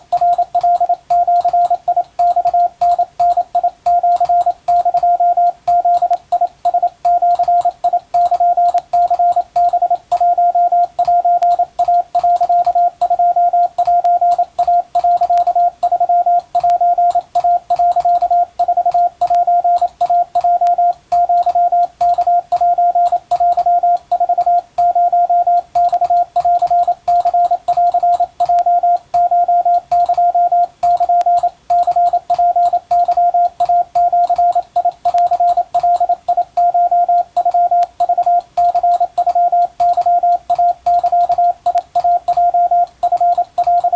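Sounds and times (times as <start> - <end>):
morse code tone: 0.0 - 43.9.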